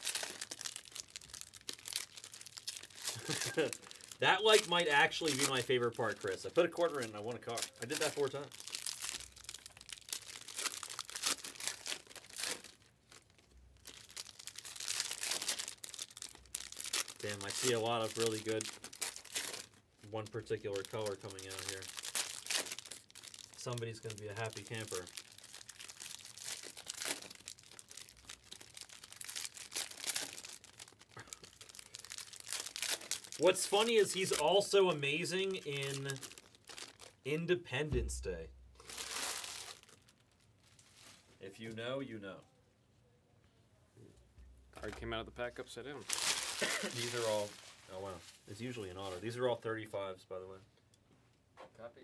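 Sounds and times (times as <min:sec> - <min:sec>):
wrappers tearing open: 0:00.0 - 0:37.3, 0:38.8 - 0:41.2, 0:46.0 - 0:49.3
foil wrappers crinkling: 0:00.0 - 0:37.5, 0:38.8 - 0:41.4, 0:46.0 - 0:49.6.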